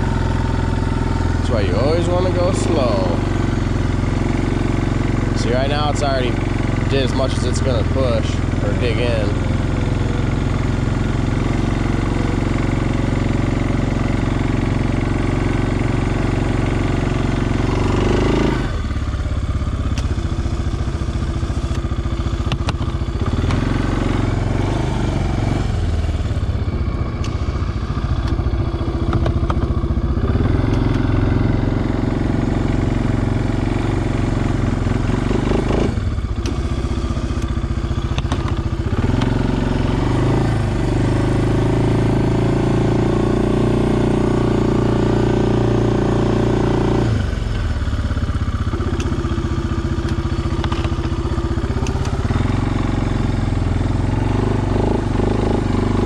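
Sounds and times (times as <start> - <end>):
atv engine under load: 0.0 - 56.0.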